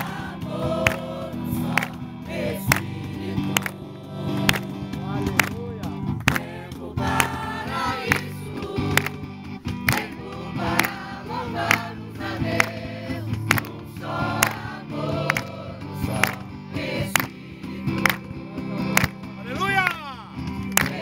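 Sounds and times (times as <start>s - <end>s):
group singing worship song: 0.0s - 21.0s
musical accompaniment: 0.0s - 21.0s.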